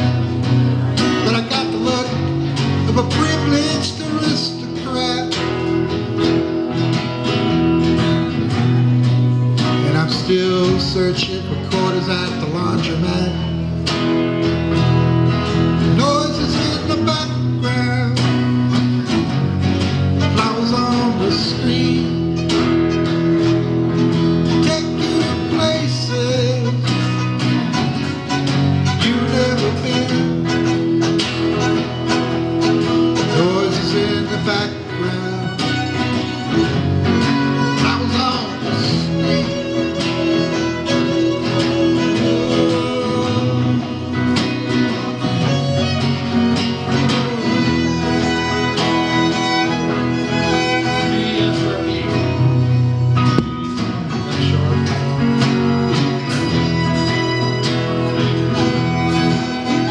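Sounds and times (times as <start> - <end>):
live band instrumental: 0.0 - 59.9.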